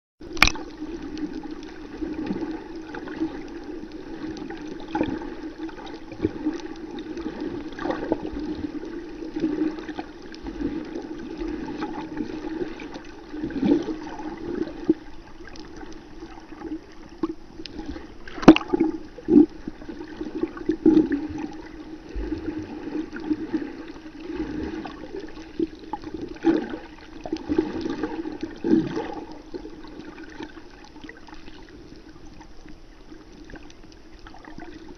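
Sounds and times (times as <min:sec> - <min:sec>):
underwater hum and water noise: 0:00.2 - 0:34.9.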